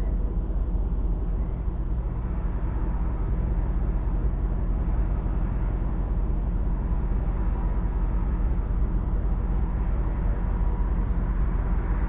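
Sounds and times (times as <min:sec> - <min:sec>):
engine idling: 0:00.0 - 0:12.0
faint hum: 0:00.0 - 0:12.0.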